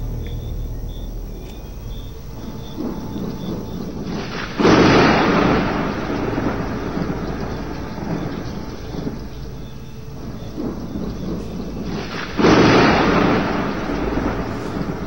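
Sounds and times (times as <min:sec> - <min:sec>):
rain: 0:00.0 - 0:15.0
thunder clap and rumble: 0:00.0 - 0:15.0.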